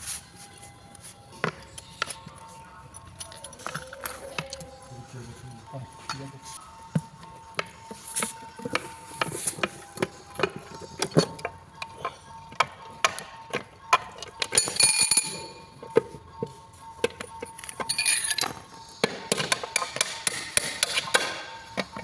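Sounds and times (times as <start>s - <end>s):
metal parts and tools clinking: 1.5s - 6.6s, 8.0s - 16.2s, 16.9s - 22.0s.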